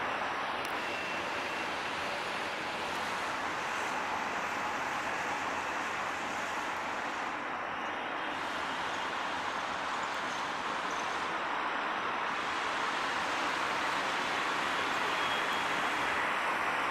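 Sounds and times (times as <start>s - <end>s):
outdoor background roar: 0.0s - 16.9s.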